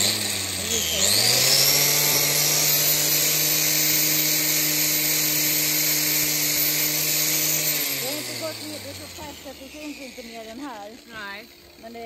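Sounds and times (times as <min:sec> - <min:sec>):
angle grinder grinding hoof: 0:00.0 - 0:12.0.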